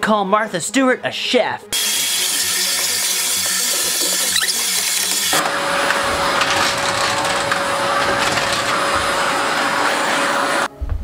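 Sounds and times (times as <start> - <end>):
vacuum cleaner running: 1.8 - 10.7.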